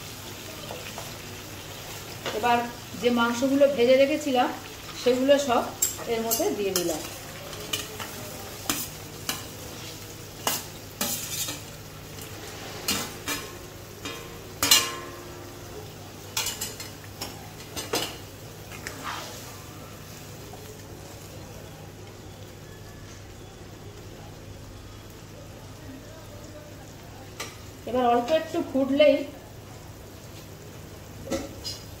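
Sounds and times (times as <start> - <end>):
sauce sizzling: 0.0 - 32.0.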